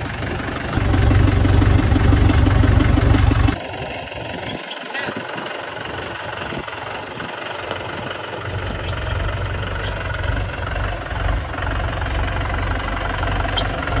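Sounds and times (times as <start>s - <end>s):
tractor diesel engine rumbling: 0.0s - 14.0s.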